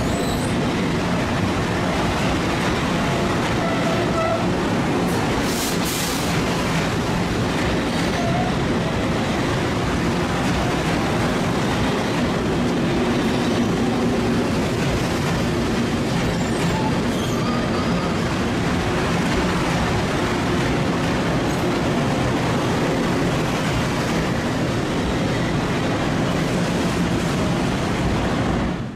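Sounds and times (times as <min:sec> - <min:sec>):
train wheels on rails: 0:00.0 - 0:28.9.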